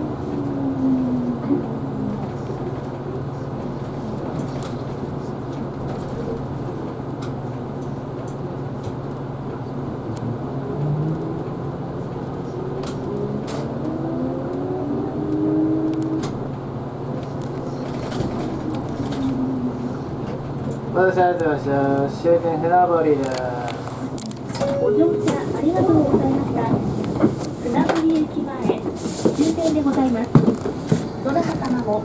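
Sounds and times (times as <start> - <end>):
bus interior hum: 0.0 - 32.0.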